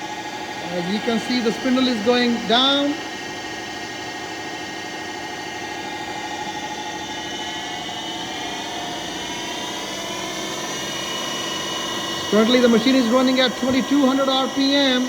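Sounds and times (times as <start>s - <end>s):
milling machine spindle whine: 0.0s - 15.0s.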